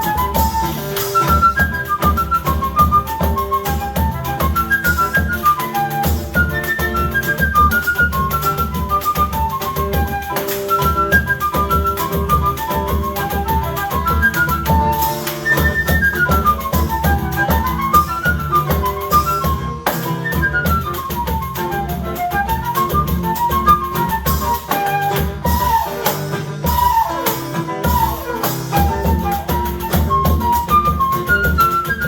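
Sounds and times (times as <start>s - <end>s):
acoustic guitar: 0.0s - 32.0s
flute melody: 0.0s - 32.0s
hand percussion: 0.0s - 32.0s.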